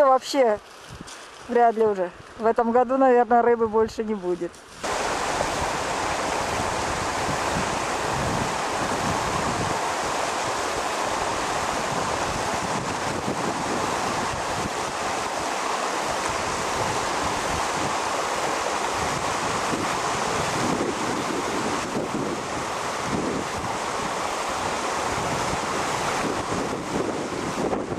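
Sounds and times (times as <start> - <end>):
fast-flowing river rushing: 4.7 - 27.9
wind buffeting microphone: 4.8 - 27.9.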